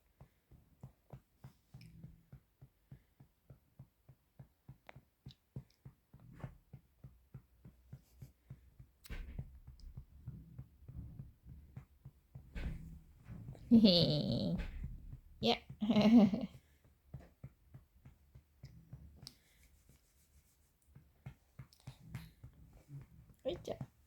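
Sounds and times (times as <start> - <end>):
soft patting on baby's back: 0.1 - 24.0.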